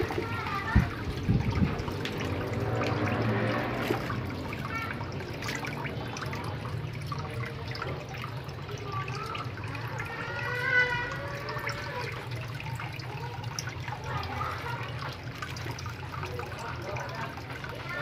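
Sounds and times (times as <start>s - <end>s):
water trickling into pond: 0.0s - 18.0s.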